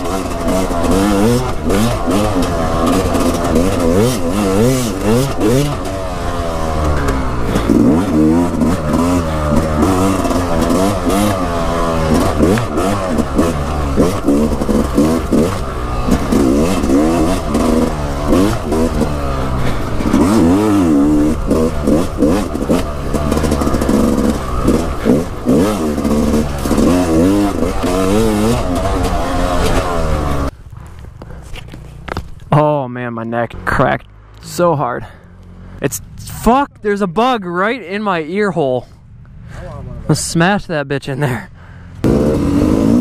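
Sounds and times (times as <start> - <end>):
dirt bike engine revving: 0.0 - 38.7, 41.2 - 43.0.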